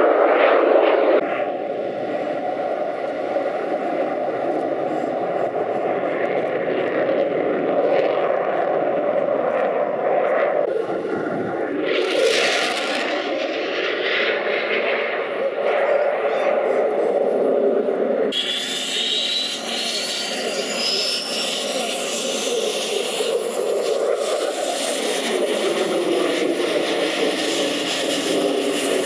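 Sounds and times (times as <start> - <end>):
fighter jet engines roaring: 0.0 - 29.0.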